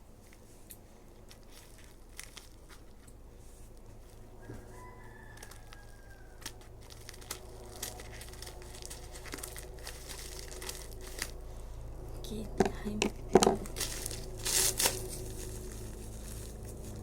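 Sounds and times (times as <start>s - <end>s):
plastic packaging crinkling: 0.2s - 12.0s, 12.6s - 17.0s.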